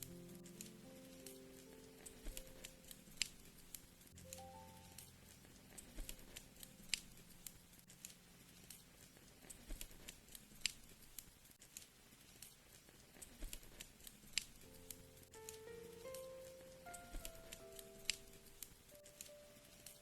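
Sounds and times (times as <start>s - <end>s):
faint low hiss: 0.0s - 20.0s
wood fire crackling: 0.0s - 20.0s.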